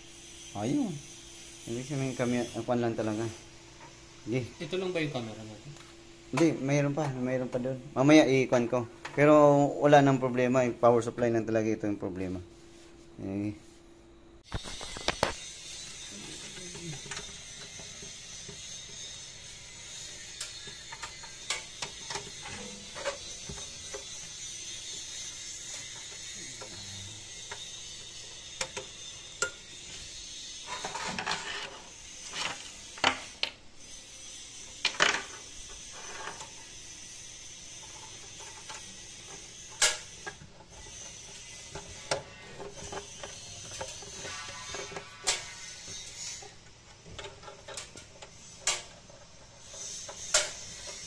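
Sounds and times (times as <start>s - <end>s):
steady high hiss: 0.0s - 51.0s.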